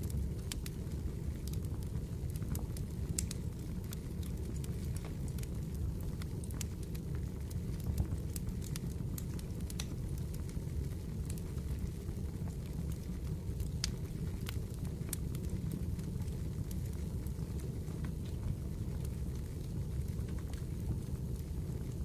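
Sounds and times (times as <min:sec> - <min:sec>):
low rumble of fire: 0:00.0 - 0:22.0
burning wood popping and snapping: 0:00.1 - 0:22.0.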